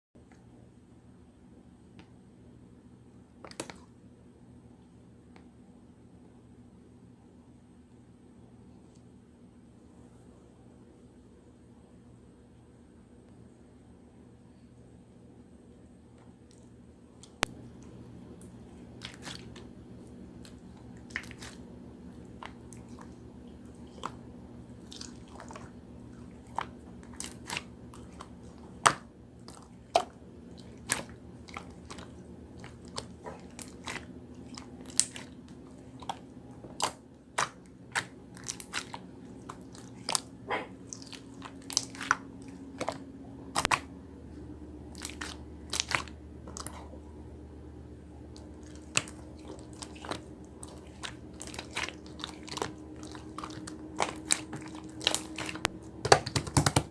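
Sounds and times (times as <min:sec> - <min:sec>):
low steady hum: 0:00.2 - 0:56.9.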